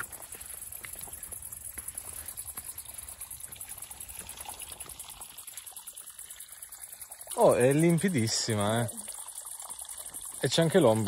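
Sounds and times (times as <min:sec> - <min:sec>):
faint trickling water: 0:00.0 - 0:11.0
insects chirring: 0:00.0 - 0:11.0.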